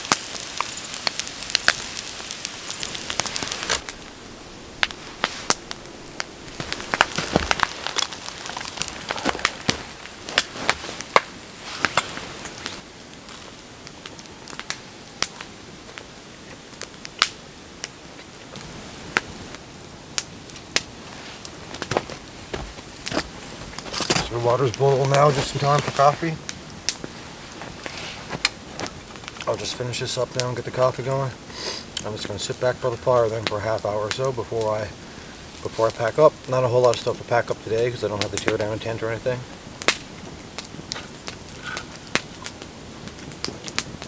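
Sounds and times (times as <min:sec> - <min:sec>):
campfire pops and snaps: 0:00.0 - 0:44.0
fire hiss: 0:00.0 - 0:44.0.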